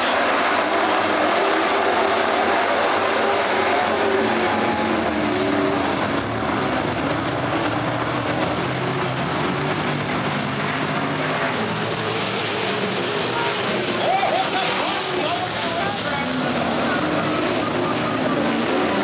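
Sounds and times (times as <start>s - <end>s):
racing truck engines running hard: 0.0s - 19.0s.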